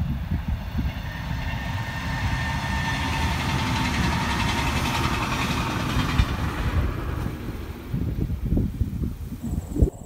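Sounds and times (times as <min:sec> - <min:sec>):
train running noise: 0:00.0 - 0:09.0.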